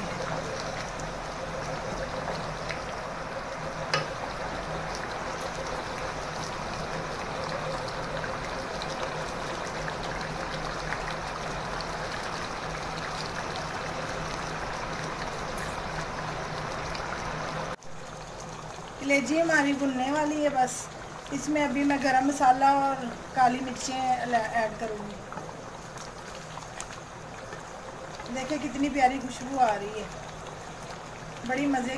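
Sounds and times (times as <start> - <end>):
gravy bubbling and sizzling in a pan: 0.0 - 31.9.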